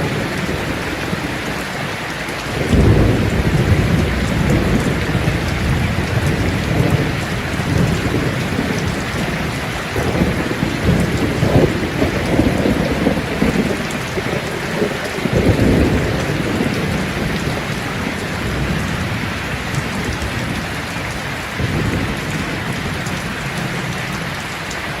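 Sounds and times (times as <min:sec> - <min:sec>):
heavy rain falling: 0:00.0 - 0:25.0
low thunder rumbling: 0:00.0 - 0:25.0.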